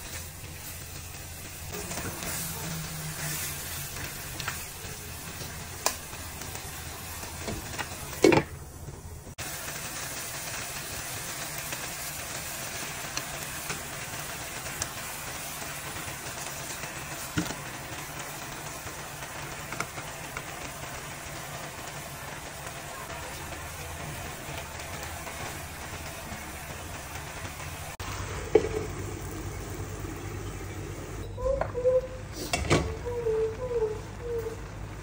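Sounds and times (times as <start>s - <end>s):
food sizzling in a wok: 0.0s - 31.3s.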